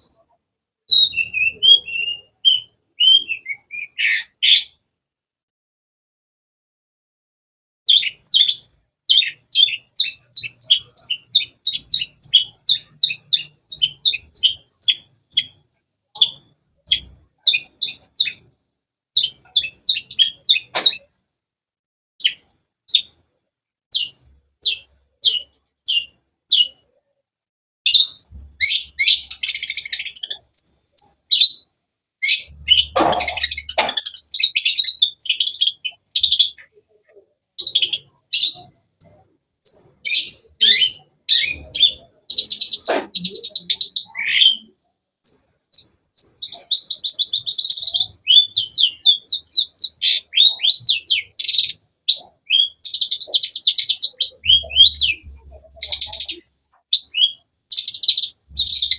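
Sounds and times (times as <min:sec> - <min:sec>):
bird chirping and trilling: 0:00.9 - 0:04.8, 0:07.9 - 0:18.5, 0:19.2 - 0:21.1, 0:22.2 - 0:23.2, 0:23.9 - 0:26.8, 0:27.9 - 0:58.9.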